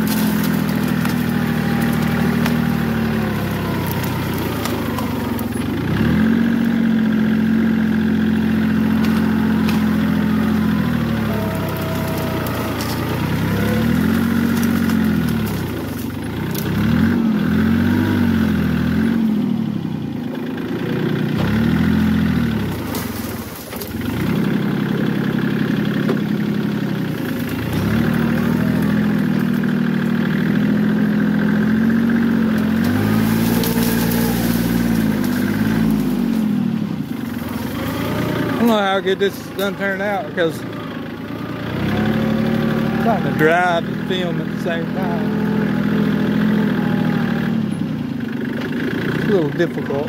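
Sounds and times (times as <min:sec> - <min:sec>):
vehicle engine revving: 0:00.0 - 0:50.0.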